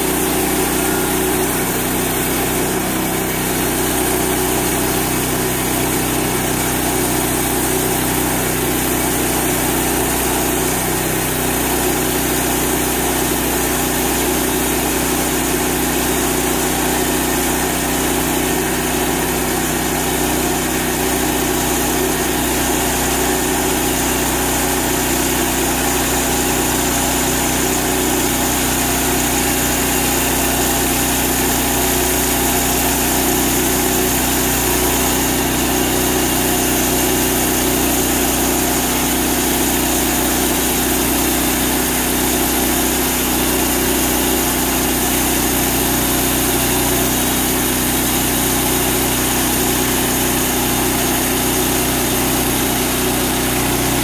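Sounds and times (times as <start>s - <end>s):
band saw cutting log: 0.0s - 54.0s
sawmill engine running: 0.0s - 54.0s.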